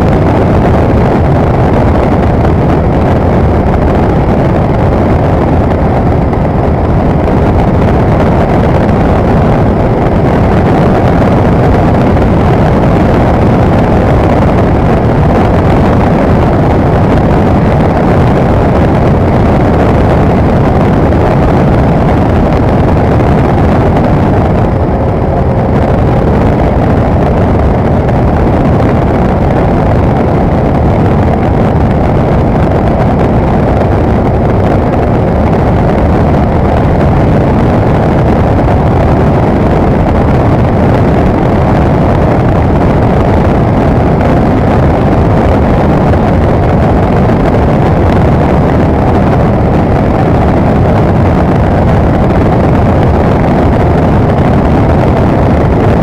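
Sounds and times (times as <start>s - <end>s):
light aircraft engine and propeller: 0.0s - 56.0s
wind rush: 0.0s - 56.0s.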